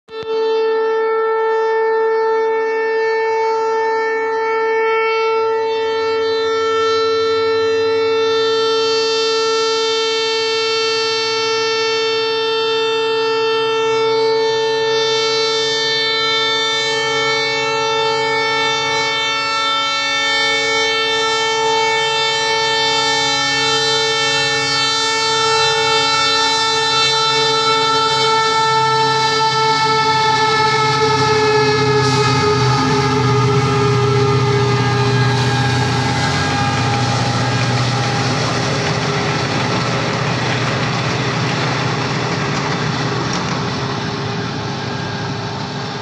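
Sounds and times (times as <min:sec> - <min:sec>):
low rumble of train: 0:00.1 - 0:46.0
train horn blast: 0:00.1 - 0:46.0.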